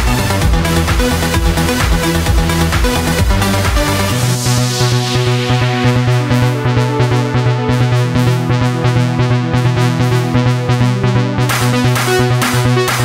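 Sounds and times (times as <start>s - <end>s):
electronic music with fast beat: 0.0s - 13.0s.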